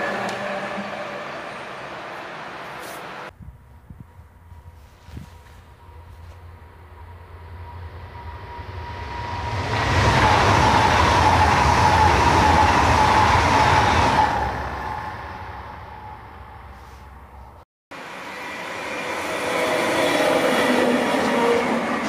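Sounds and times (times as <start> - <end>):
electric train rushing past: 0.0 - 16.8, 18.0 - 22.0.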